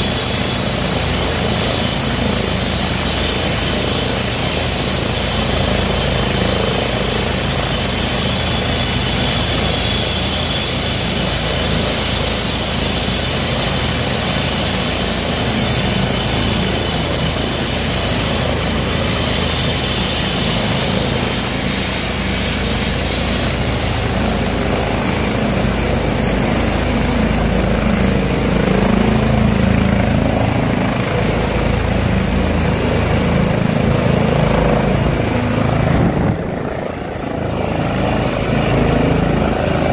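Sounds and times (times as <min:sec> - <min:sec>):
helicopter rotor beat: 0:00.0 - 0:39.9.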